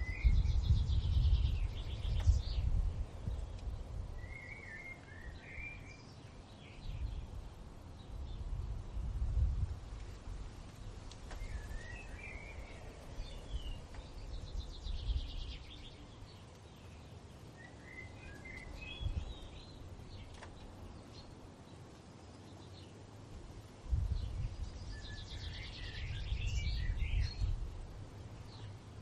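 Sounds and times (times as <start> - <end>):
wind rumble: 0.0 - 21.6, 23.0 - 29.0
songbirds singing: 0.0 - 29.0.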